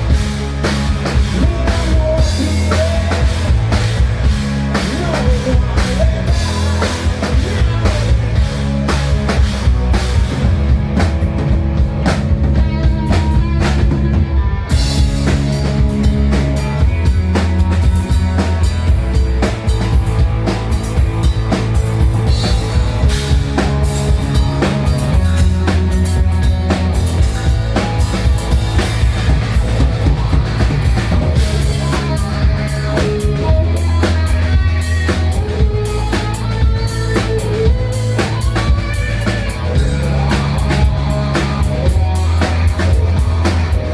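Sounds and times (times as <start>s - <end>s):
live hard rock band: 0.0s - 43.9s.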